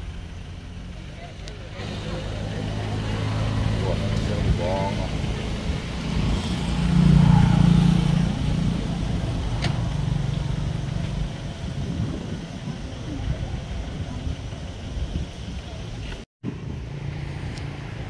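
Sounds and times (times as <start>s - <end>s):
vehicle engine drone: 0.0s - 18.0s.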